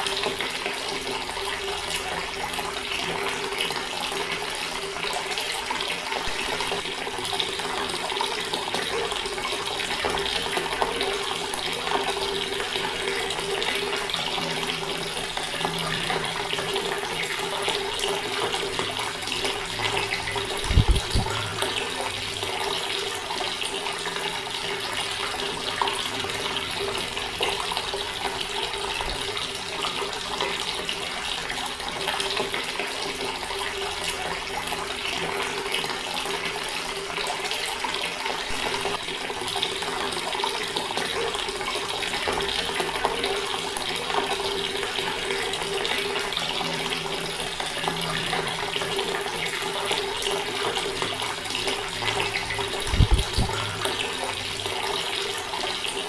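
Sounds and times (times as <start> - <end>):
water running from a tap: 0.0 - 56.0.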